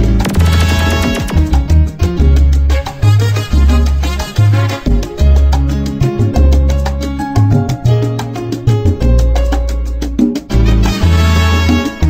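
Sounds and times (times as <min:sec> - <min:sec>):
romantic salsa music: 0:00.0 - 0:12.0
steady percussion: 0:00.0 - 0:12.0.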